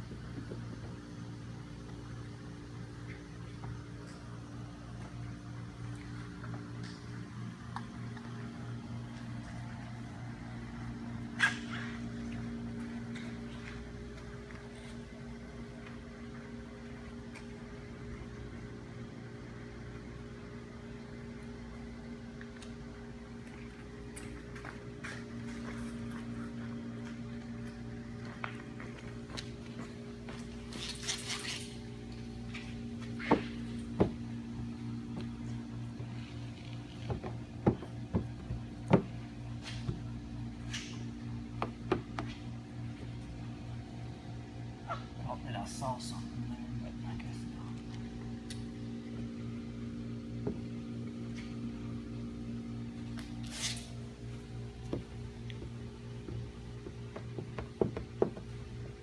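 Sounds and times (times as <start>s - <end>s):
low room hum: 0.0s - 59.0s.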